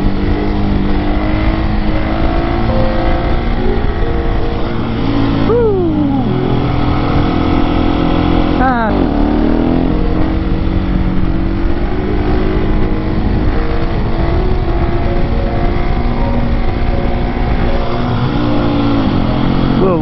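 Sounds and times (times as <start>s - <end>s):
low wind rumble: 0.0s - 20.0s
motorcycle engine running: 0.0s - 20.0s.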